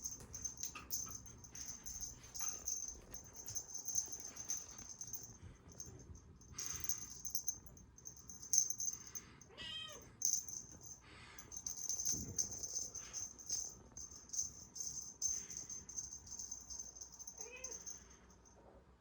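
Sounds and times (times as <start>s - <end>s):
cat toy rattling: 0.0s - 9.2s, 10.2s - 18.0s.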